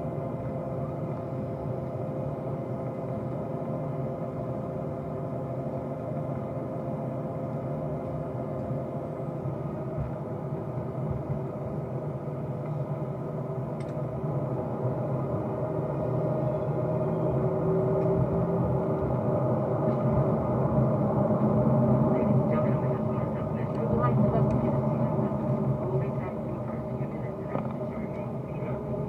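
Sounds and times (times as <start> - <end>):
vehicle cabin engine drone: 0.0 - 29.0.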